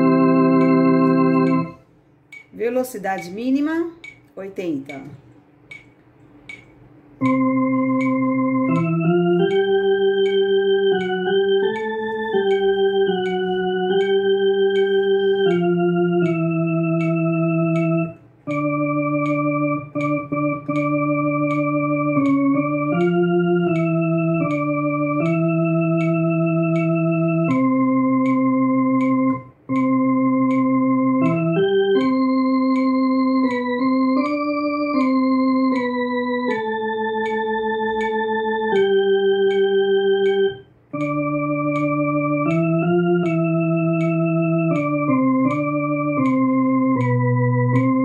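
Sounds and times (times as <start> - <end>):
electronic organ playing hymn: 0.0 - 1.9, 7.2 - 48.0
metronome clicking: 0.0 - 48.0.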